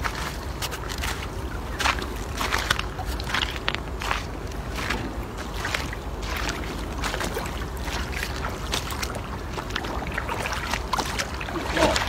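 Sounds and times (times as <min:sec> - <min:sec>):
light water splashes: 0:00.0 - 0:12.0
river water lapping: 0:00.0 - 0:12.0
wind rumbling on microphone: 0:00.0 - 0:12.0.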